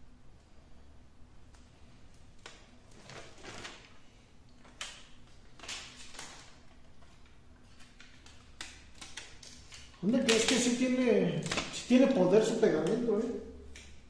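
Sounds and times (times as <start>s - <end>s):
foil tape rustling and crinkling: 1.5s - 13.2s.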